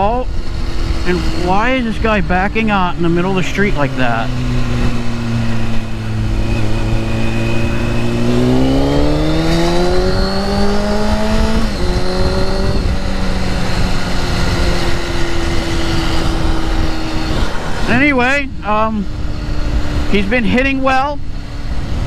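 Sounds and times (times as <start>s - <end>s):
motorcycle engine accelerating: 0.0s - 22.0s
wind noise: 0.0s - 22.0s.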